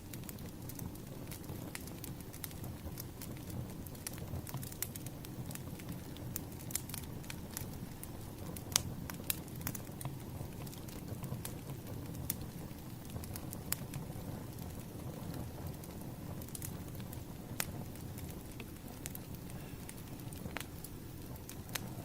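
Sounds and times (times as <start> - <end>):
firewood crackling and popping: 0.0 - 22.0
flames rumbling: 0.0 - 22.0.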